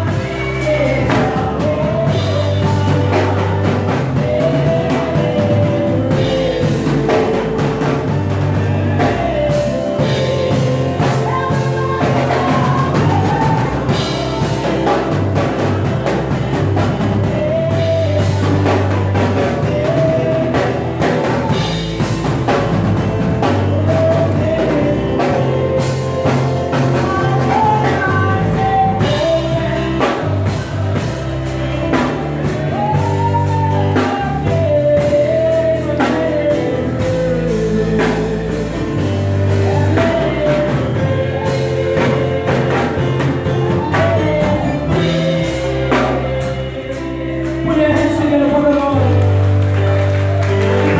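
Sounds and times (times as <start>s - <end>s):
deep bass line: 0.0s - 50.9s
drum kit: 0.0s - 50.9s
gospel singing: 0.0s - 50.9s.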